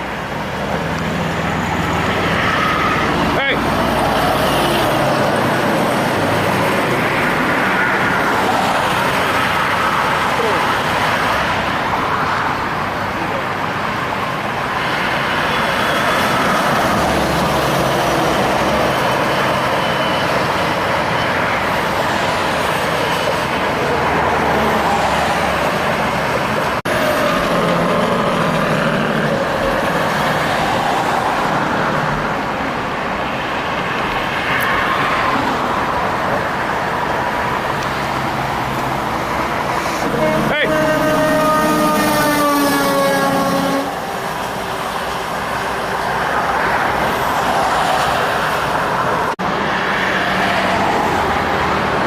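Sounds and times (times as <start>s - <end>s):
diesel trucks passing: 0.0s - 52.0s
heavy road traffic: 0.0s - 52.0s.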